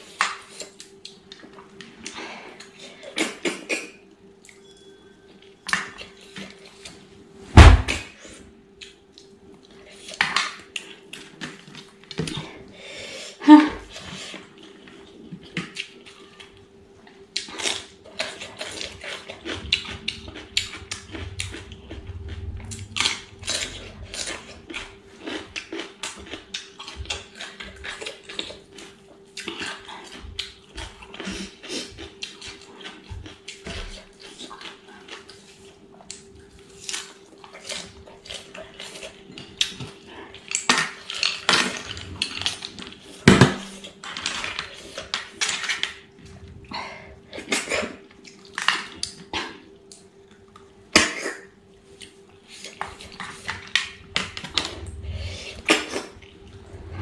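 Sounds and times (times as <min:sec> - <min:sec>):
chewing and crunching: 0:00.0 - 0:07.1, 0:07.9 - 0:12.8, 0:13.8 - 0:57.0
faint steady hum: 0:00.0 - 0:57.0.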